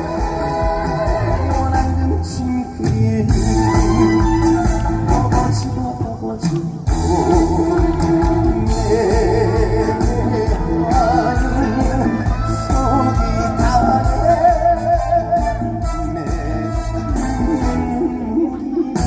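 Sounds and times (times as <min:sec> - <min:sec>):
band playing with steady beat: 0:00.0 - 0:19.0
man singing: 0:00.0 - 0:19.0.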